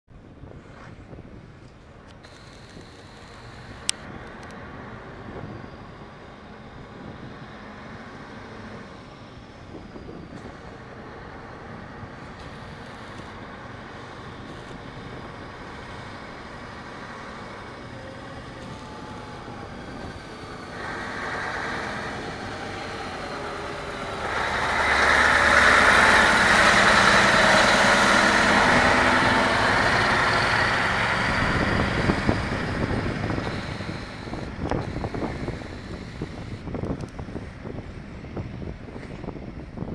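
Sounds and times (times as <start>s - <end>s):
truck diesel engine accelerating: 1.9s - 39.9s.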